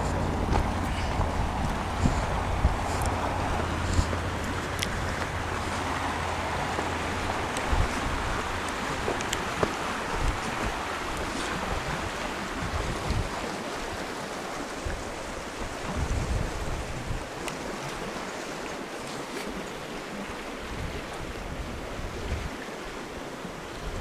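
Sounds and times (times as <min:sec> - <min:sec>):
wind buffeting microphone: 0:00.0 - 0:18.1, 0:20.2 - 0:22.9.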